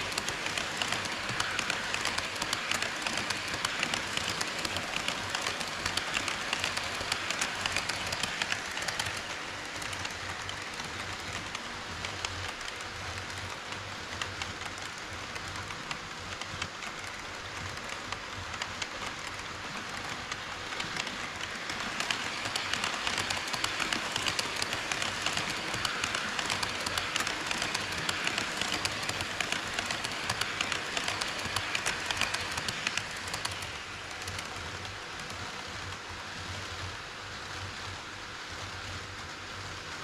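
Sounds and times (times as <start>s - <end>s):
model train rumble: 0.0s - 40.0s
model train wheels clicking: 0.0s - 40.0s.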